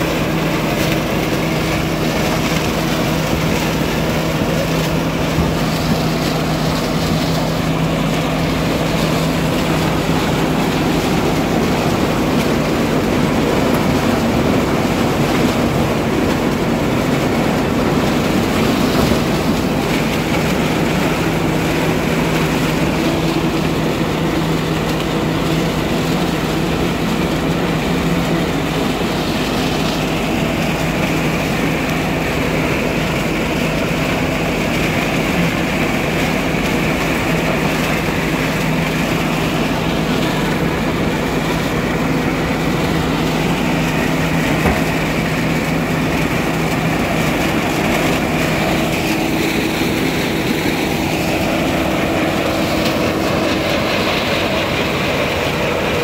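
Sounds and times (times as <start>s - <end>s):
tractor engine and corn picker: 0.0s - 56.0s.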